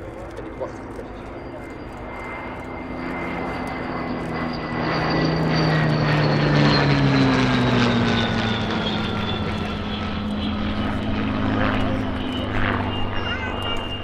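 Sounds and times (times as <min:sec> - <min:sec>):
propeller planes flying past: 0:00.0 - 0:14.0.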